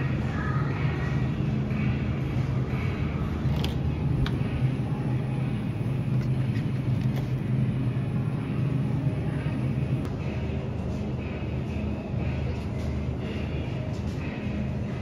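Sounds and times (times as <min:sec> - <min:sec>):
refrigerator low hum: 0:00.0 - 0:15.0.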